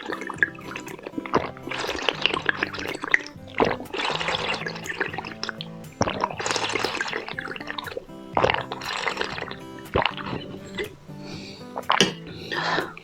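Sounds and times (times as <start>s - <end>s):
background music: 0.0s - 13.0s
wet chewing and smacking: 0.0s - 13.0s.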